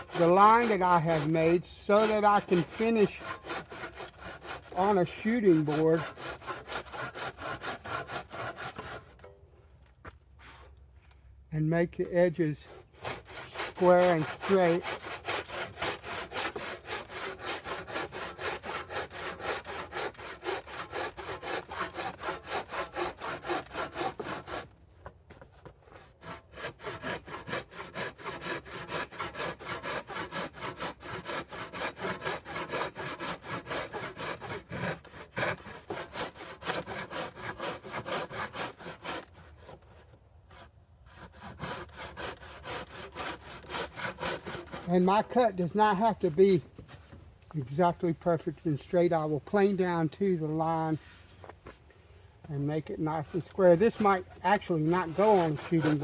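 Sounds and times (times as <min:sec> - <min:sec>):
hand saw cutting wood: 0:00.0 - 0:09.4, 0:11.9 - 0:51.8, 0:52.4 - 0:56.0.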